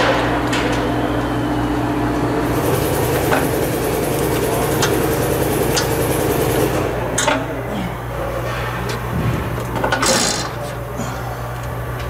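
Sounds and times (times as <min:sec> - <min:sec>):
steady mechanical drone: 0:00.0 - 0:12.0.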